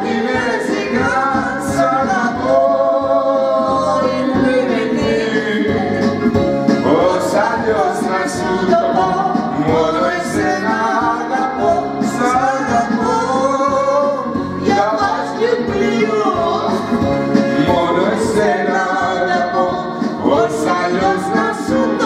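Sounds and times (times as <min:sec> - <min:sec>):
backing track with steady beat: 0:00.0 - 0:22.0
woman and man singing: 0:00.0 - 0:22.0.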